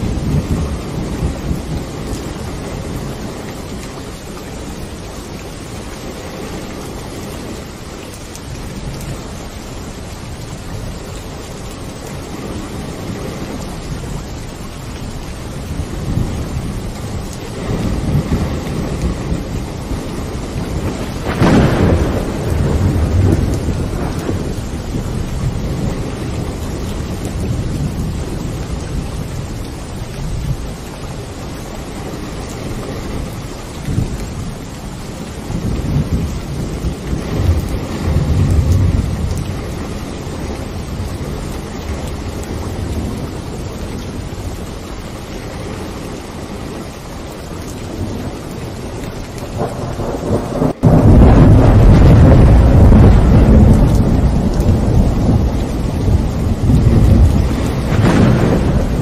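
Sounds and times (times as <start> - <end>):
thunder rumbling: 0.0 - 47.0, 47.6 - 59.0
steady rain: 0.0 - 59.0.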